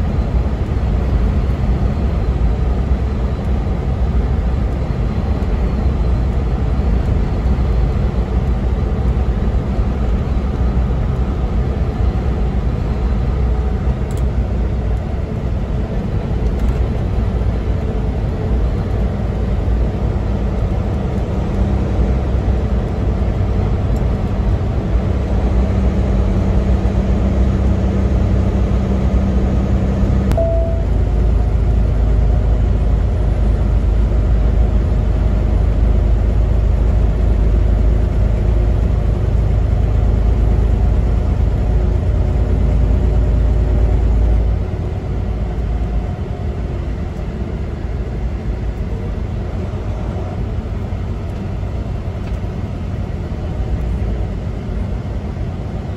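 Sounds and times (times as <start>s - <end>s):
steady engine tone: 0.0s - 55.9s
truck engine and road rumble: 0.0s - 55.9s.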